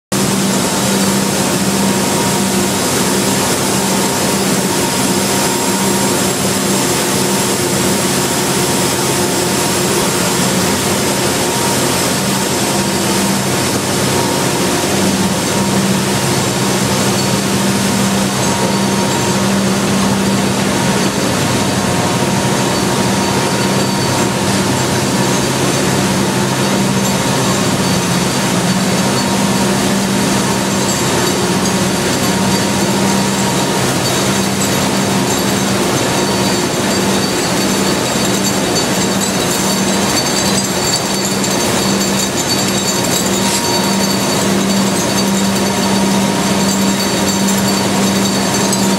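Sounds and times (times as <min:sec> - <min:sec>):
machinery noise: 0:00.2 - 0:48.9.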